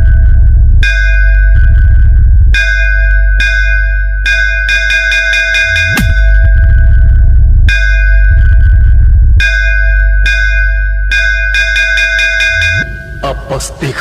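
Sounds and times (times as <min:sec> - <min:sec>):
bell-like synth tone: 0:00.0 - 0:14.0
heavy deep bass blasts: 0:00.0 - 0:14.0.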